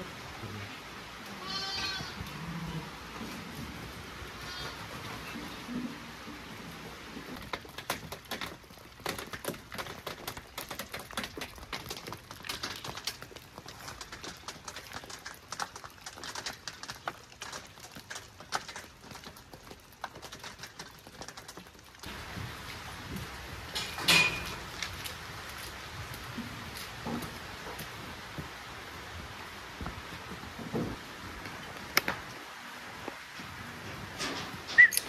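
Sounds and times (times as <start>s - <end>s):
rain pattering on hard surface: 0.0s - 35.0s.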